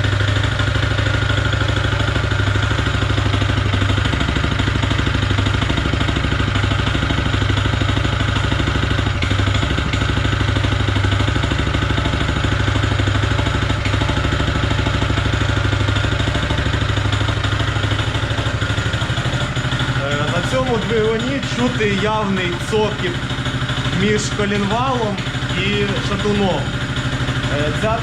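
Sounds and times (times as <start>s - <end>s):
engine knocking: 0.0s - 28.0s
petrol engine running: 0.0s - 28.0s.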